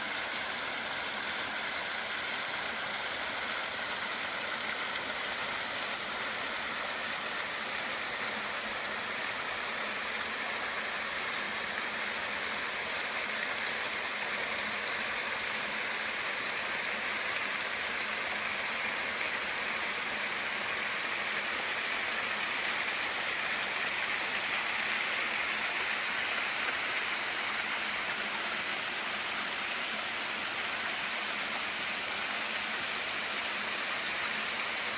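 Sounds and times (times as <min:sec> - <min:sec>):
waterfall cascading over rocks: 0:00.0 - 0:34.9.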